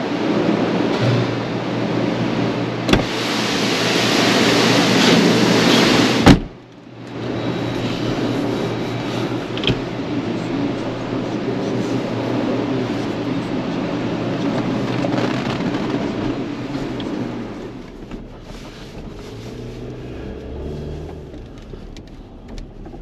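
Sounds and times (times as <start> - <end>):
car wash machinery rushing: 0.0 - 23.0.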